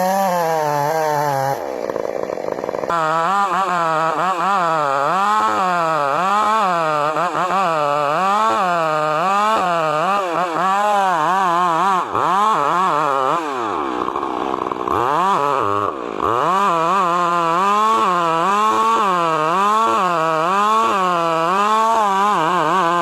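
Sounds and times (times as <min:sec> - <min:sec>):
chainsaw cutting: 0:00.0 - 0:23.0.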